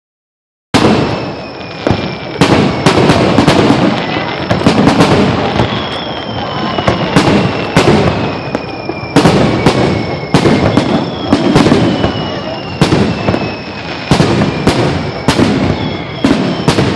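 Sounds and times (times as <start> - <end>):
firework shells booming: 0.7 - 16.9.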